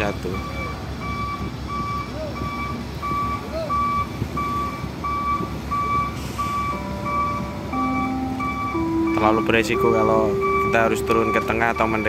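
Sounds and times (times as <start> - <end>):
diesel engine rumble: 0.0 - 12.0
reversing alarm beeps: 0.0 - 12.0.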